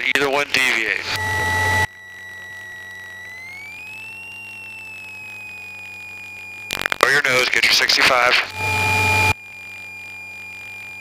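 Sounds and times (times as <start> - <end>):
stall warning horn whine: 0.0 - 11.0.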